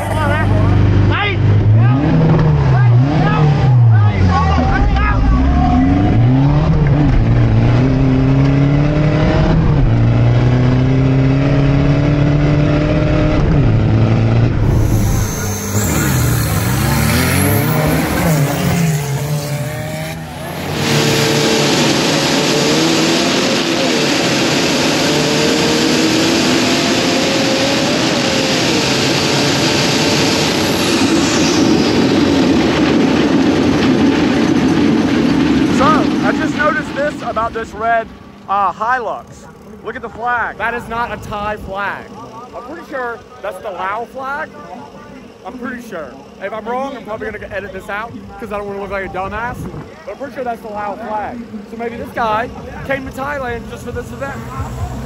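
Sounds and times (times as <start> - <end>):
diesel truck engine revving: 0.0 - 40.0, 45.3 - 55.0.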